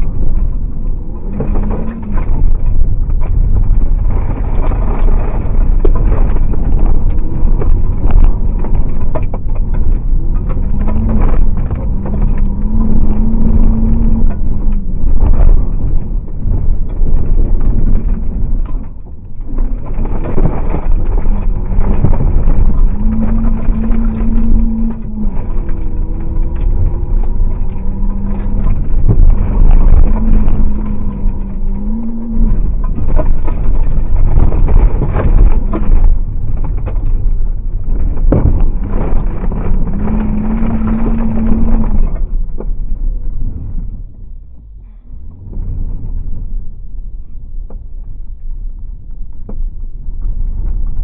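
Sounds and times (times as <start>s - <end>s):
car engine at high revs: 0.0s - 49.6s
gravel knocking against car: 0.0s - 51.0s.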